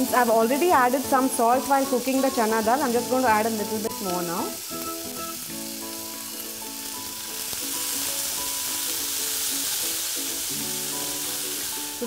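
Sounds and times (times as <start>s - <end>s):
lentils sizzling in oil: 0.0s - 12.0s.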